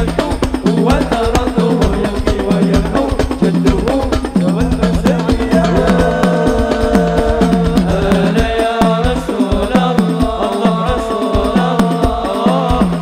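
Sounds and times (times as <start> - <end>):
deep bass drum: 0.0 - 13.0
frame drums beating: 0.0 - 13.0
man singing: 0.0 - 13.0.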